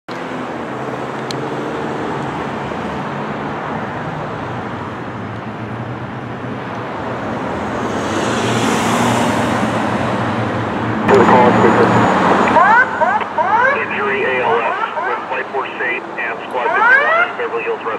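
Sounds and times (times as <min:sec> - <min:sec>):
passing vehicle: 0:00.1 - 0:17.9.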